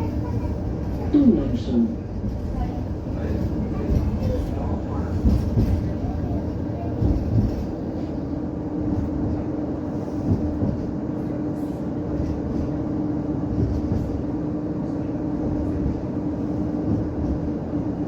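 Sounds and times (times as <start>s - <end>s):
tram rumbling along: 0.0s - 18.0s.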